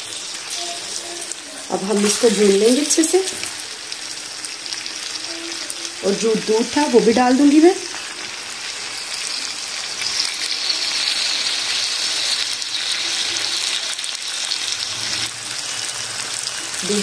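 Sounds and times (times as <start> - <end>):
curry sizzling in a wok: 0.0 - 17.0.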